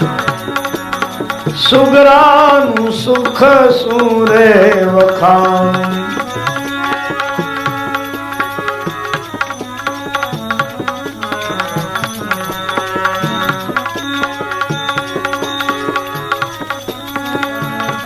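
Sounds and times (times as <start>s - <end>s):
held melodic line: 0.0s - 18.0s
tabla playing: 0.0s - 18.0s.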